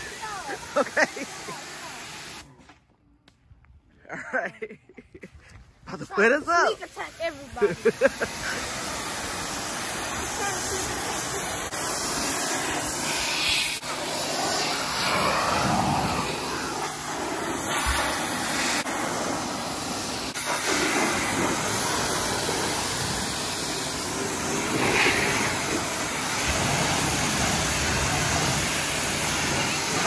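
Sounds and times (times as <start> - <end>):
pressure washer spray hiss: 0.0 - 2.4, 6.2 - 30.0.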